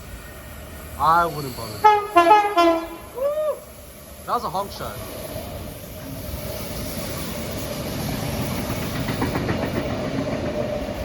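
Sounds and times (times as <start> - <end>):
electric train on rails: 0.0 - 11.0.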